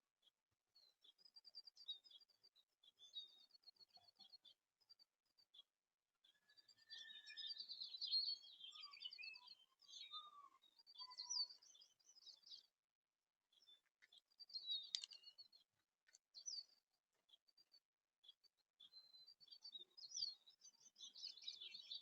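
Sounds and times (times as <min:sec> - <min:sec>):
songbirds chirping and trilling: 0:00.7 - 0:22.0.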